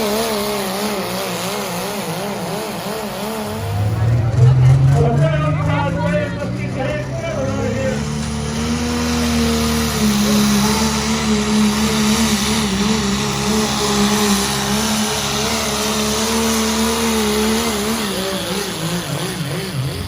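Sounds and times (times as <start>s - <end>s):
vehicle engine at high revs: 0.0s - 20.0s.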